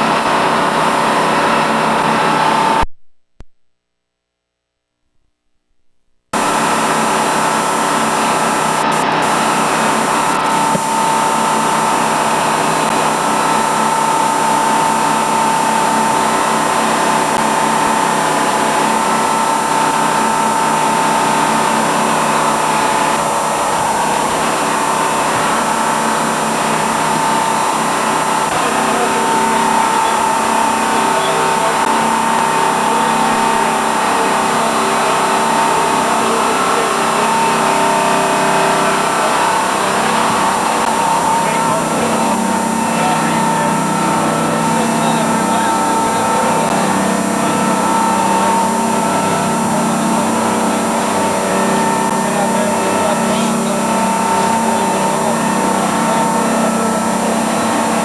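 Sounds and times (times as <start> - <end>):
boat engine droning: 0.0 - 2.9, 6.4 - 58.0.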